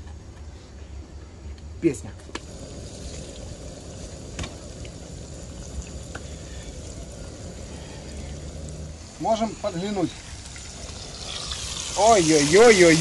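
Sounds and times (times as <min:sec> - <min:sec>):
oil popping: 0:02.3 - 0:13.0
fish sizzling in hot oil: 0:02.4 - 0:13.0.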